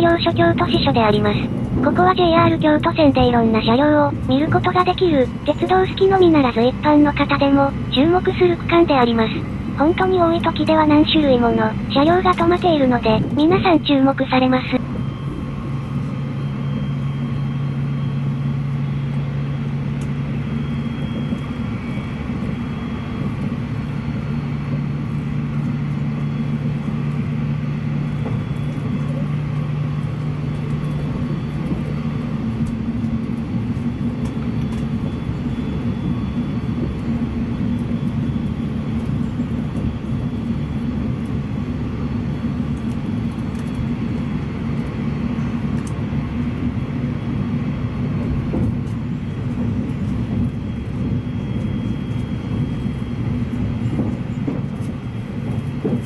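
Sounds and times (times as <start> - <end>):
low steady hum: 0.0 - 56.0
train wheels rumbling on rails: 0.0 - 56.0.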